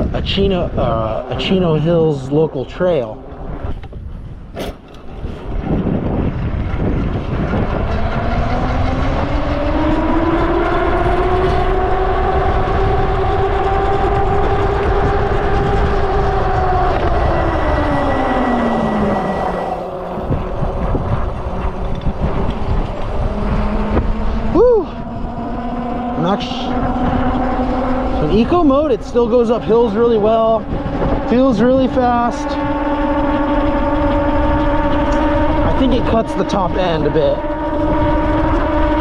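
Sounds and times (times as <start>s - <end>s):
electric motorbike whine: 0.0s - 39.0s
wind rushing: 0.0s - 39.0s.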